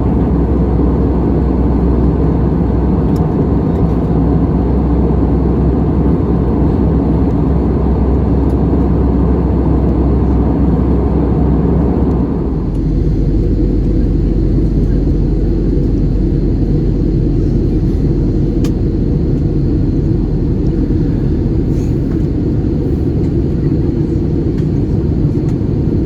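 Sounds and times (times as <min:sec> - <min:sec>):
airliner cabin engine noise: 0:00.0 - 0:26.0.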